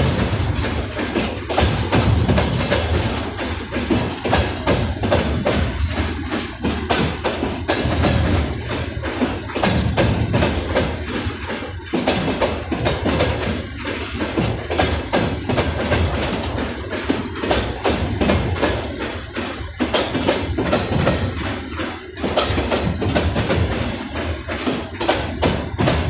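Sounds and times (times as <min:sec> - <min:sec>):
low train rumble: 0:00.0 - 0:26.0
train wheels clacking over rail joints: 0:00.0 - 0:26.0.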